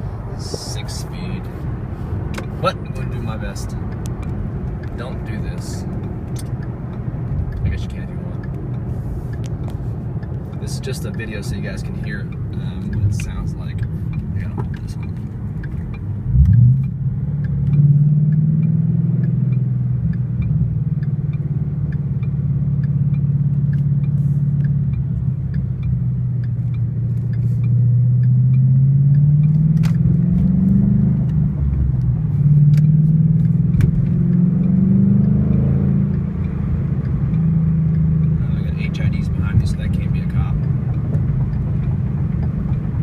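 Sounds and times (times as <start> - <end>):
car exhaust revving: 0.0 - 43.0.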